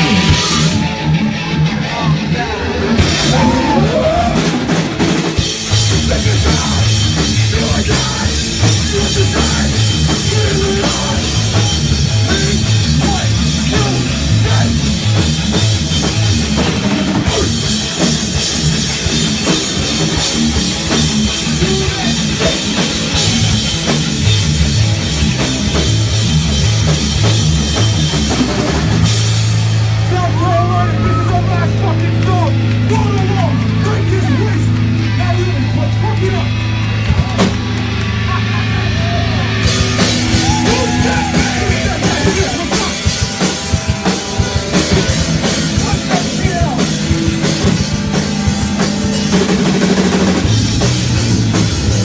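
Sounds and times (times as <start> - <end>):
pounding drum kit: 0.0 - 52.0
rock band playing live: 0.0 - 52.0.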